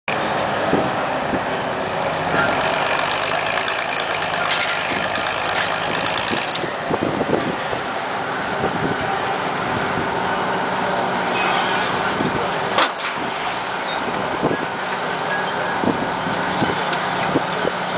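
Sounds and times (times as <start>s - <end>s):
crane engine running: 0.1s - 17.9s.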